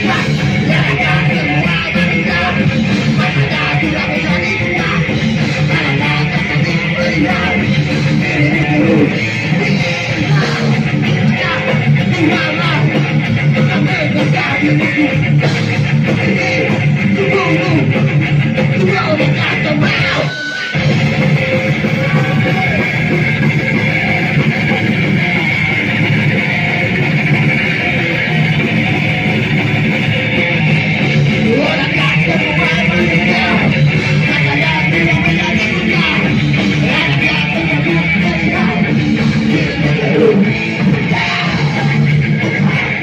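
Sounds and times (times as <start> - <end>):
distorted electric guitars: 0.0 - 43.0
drums: 0.0 - 43.0.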